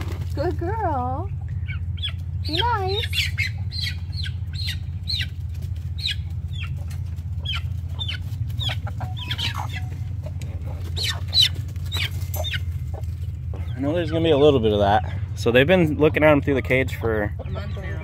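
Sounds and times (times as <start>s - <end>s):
steady low hum: 0.0s - 18.0s
chickens clucking: 1.0s - 18.0s
chicks peeping: 1.2s - 18.0s.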